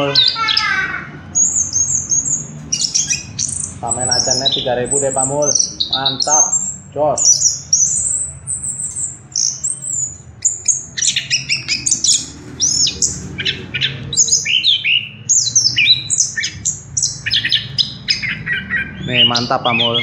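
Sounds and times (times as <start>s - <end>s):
thrush singing: 0.0s - 20.0s.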